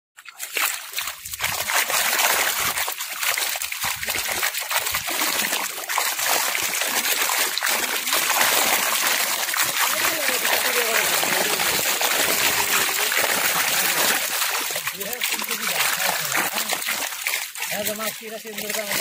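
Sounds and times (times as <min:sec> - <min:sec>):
fish splashing at the surface: 0:00.2 - 0:19.0.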